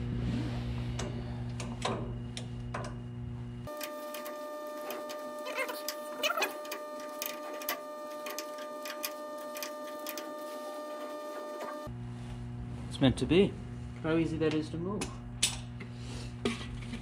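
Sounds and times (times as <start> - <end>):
steady hum with held tones: 0.0 - 17.0.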